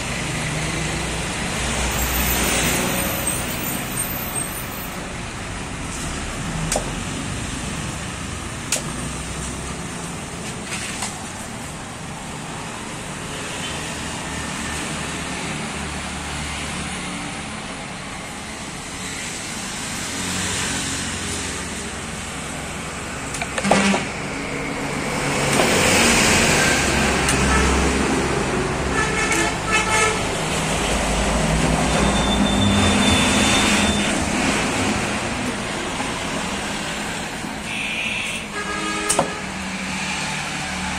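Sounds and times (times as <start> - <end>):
passing road traffic: 0.0 - 40.9.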